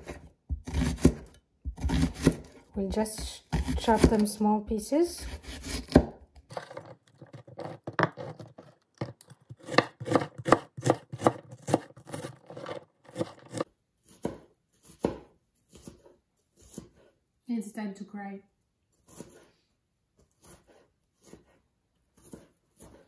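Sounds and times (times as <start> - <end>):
knife chopping on cutting board: 0.0 - 4.4, 5.1 - 17.1, 20.2 - 21.6, 22.2 - 23.0.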